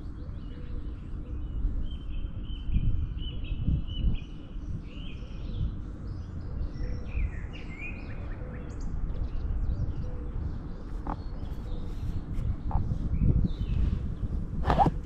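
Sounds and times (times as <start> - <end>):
low rumble: 0.0 - 15.0
small birds chirping: 0.0 - 15.0.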